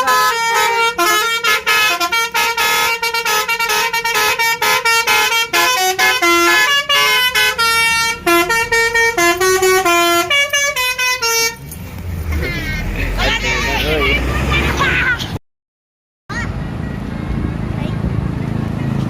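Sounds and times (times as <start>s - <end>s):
bus multi-tone horn tune: 0.0s - 15.4s.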